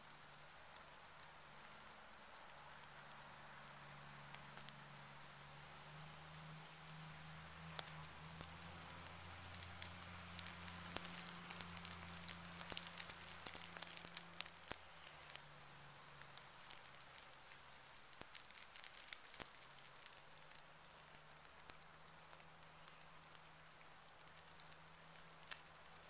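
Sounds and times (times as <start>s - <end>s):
bark and tinder crackling: 0.0s - 26.0s.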